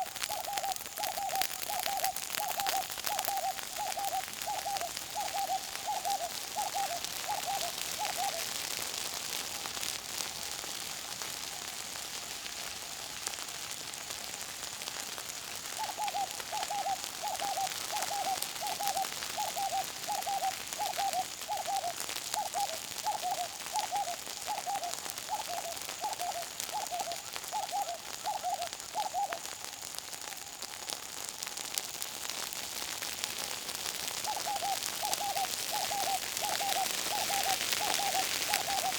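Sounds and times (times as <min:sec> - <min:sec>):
bush fire crackling: 0:00.0 - 0:38.9.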